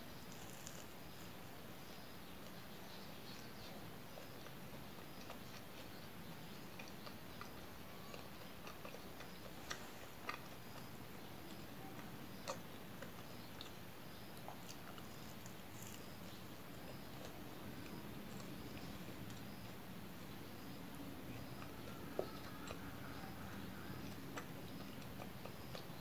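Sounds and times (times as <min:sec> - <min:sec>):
faint steady hiss: 0:00.0 - 0:26.0
chewing mouth sounds: 0:04.1 - 0:20.4, 0:21.1 - 0:26.0.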